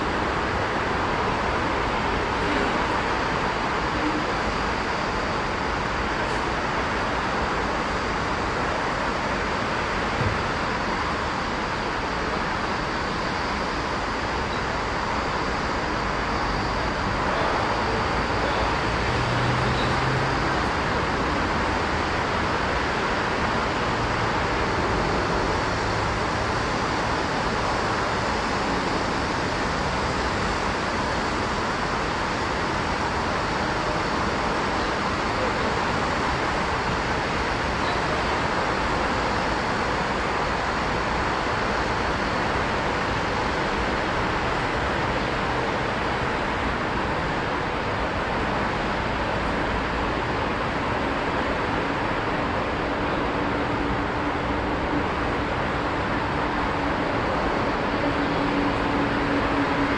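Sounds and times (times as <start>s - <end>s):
city road traffic: 0.0s - 12.7s, 13.5s - 59.9s.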